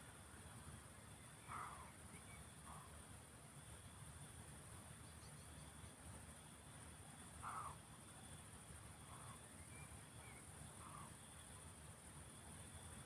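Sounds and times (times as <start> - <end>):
high insect chorus: 0.1 - 13.0.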